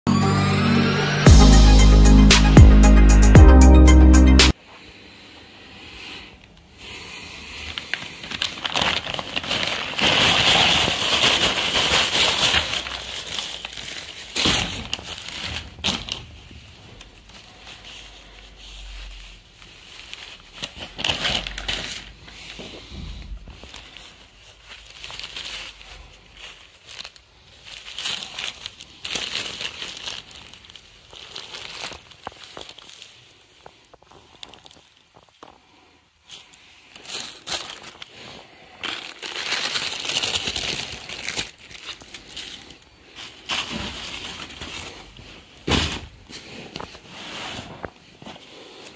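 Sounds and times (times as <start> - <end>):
plastic bag crinkling: 7.2 - 48.9.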